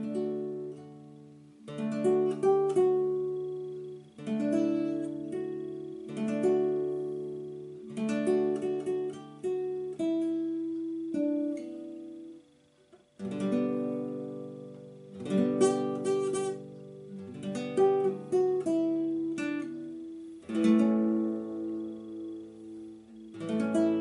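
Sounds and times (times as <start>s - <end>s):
acoustic guitar chords ringing: 0.0s - 24.0s.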